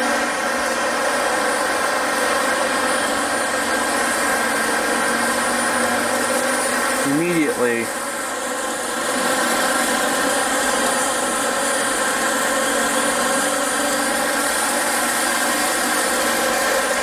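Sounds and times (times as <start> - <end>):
vacuum cleaner whining drone: 0.0 - 17.0.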